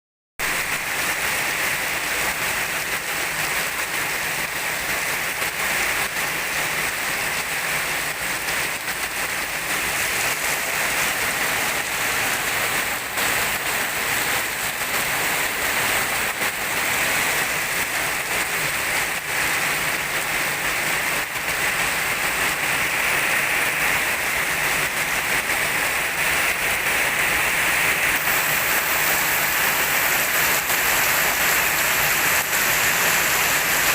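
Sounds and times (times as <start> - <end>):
steady rain falling: 0.4 - 33.9.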